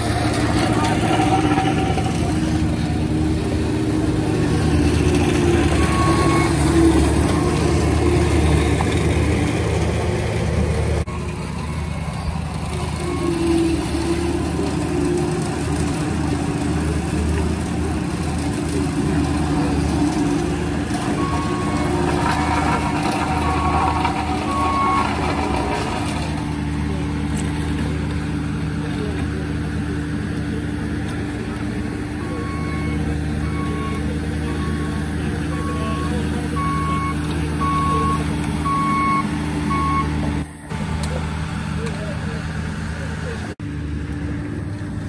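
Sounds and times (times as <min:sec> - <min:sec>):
loader engine running: 0:00.0 - 0:45.0.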